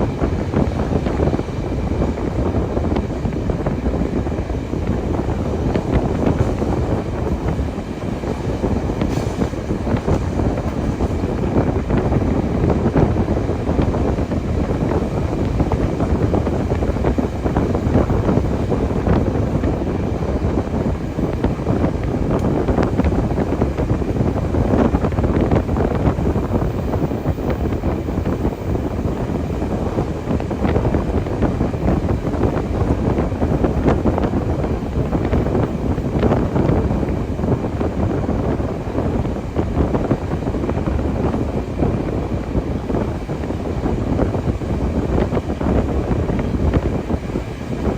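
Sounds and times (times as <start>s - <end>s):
train rumbling: 0.0s - 47.9s
wind buffeting microphone: 0.0s - 47.9s.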